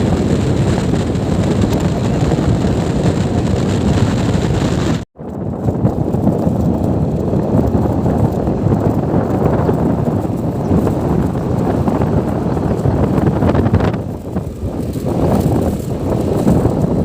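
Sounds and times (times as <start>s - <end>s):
moving vehicle noise: 0.0s - 17.0s
wind buffeting microphone: 0.0s - 17.0s.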